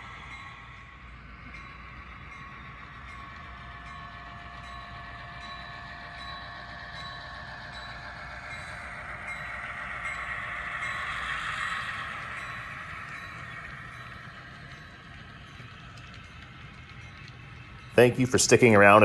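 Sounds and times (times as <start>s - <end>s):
model train engine hum: 0.0s - 19.0s.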